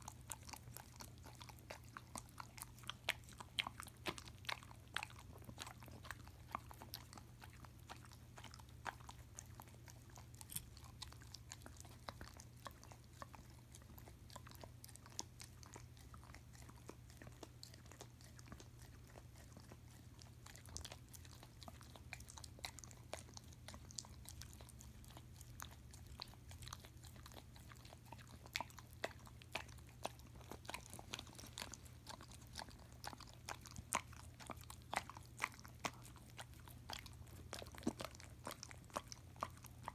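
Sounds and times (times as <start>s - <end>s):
dog licking and smacking: 0.0s - 39.9s
low steady hum: 0.0s - 39.9s.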